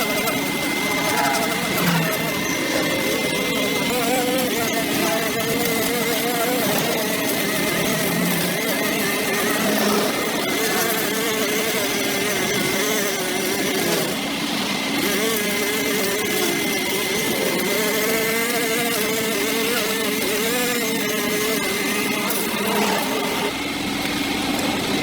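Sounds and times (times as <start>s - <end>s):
small petrol engine running: 0.0s - 25.0s.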